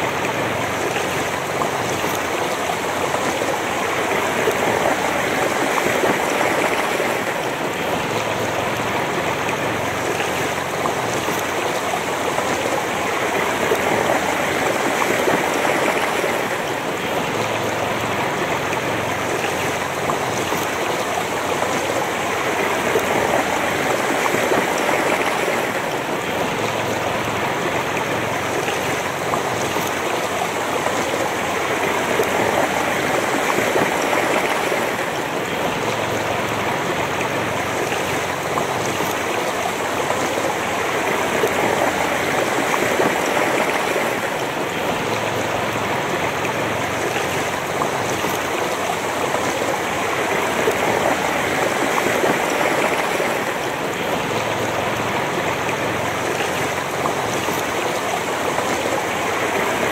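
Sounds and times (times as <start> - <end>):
river flowing over stones: 0.0 - 59.9.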